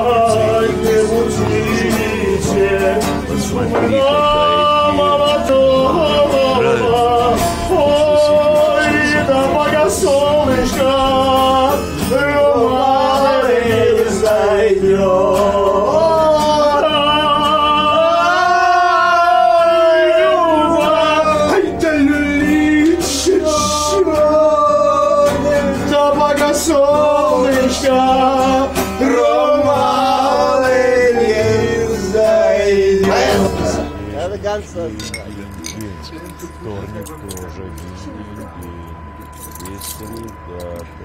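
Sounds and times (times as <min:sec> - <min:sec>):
men singing together: 0:00.0 - 0:34.1
acoustic guitar: 0:00.0 - 0:41.0.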